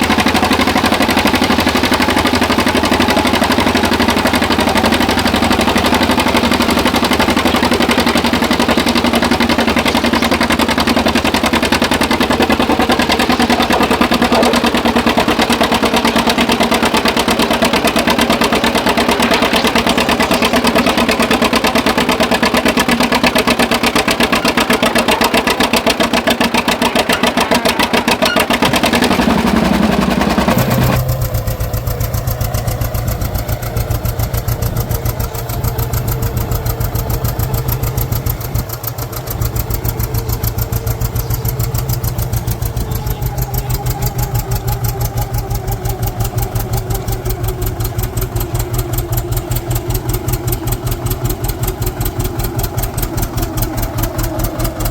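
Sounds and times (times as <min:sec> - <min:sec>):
tractor engine under load: 0:00.0 - 0:54.9.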